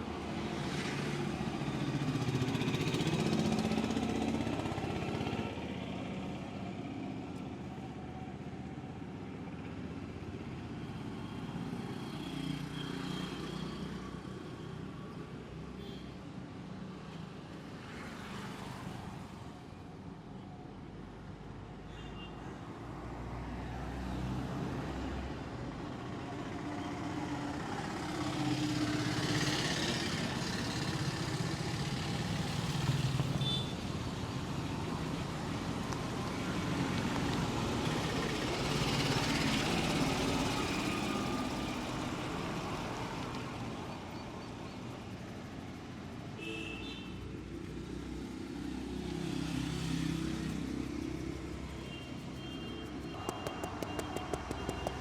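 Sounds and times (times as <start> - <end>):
vehicles passing: 0.0 - 15.7, 22.8 - 55.0
hum of traffic engines: 0.0 - 55.0.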